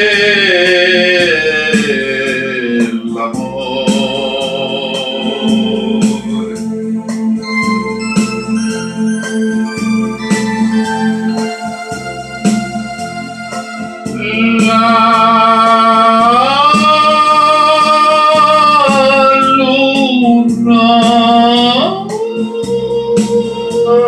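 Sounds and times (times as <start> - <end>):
instrumental backing track: 0.0 - 24.0.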